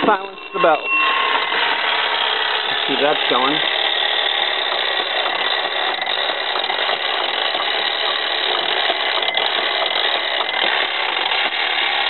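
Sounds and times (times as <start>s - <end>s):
clockwork mechanism running: 0.0s - 12.0s.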